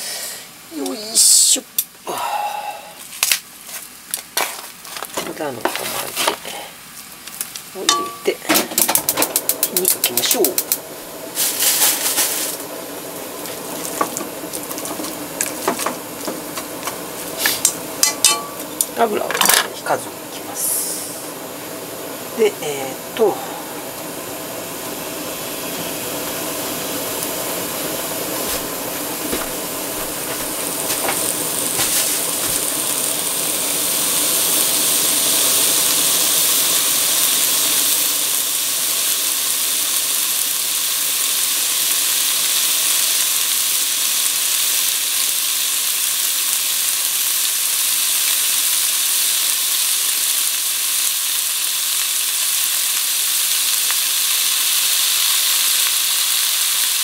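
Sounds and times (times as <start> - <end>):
pork sizzling in a pan: 0.0 - 57.0.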